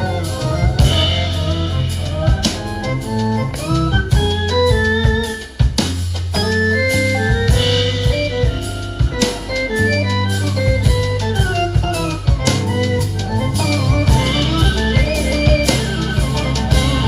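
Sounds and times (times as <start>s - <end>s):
bass line: 0.0s - 17.0s
drum beat: 0.0s - 17.0s
organ-like keyboard melody: 0.0s - 17.0s.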